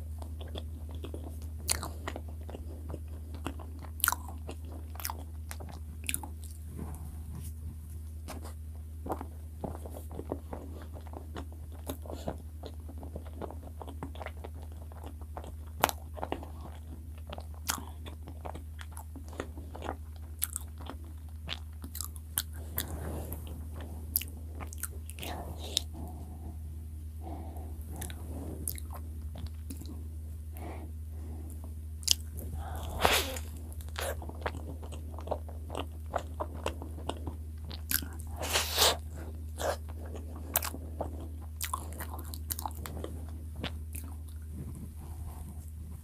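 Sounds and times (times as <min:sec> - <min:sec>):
steady low hum: 0:00.0 - 0:46.0
wet chewing: 0:00.2 - 0:07.5, 0:08.2 - 0:26.6, 0:27.2 - 0:30.7, 0:31.5 - 0:46.0.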